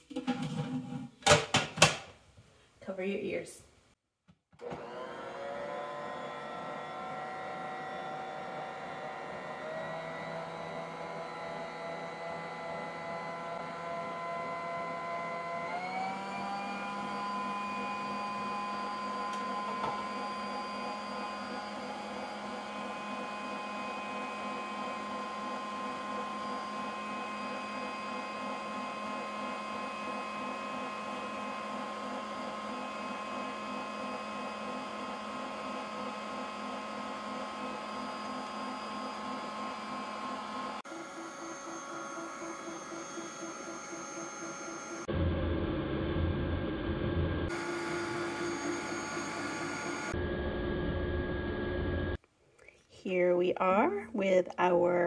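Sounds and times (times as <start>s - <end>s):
kitchen mixer motor whine: 4.6s - 52.2s.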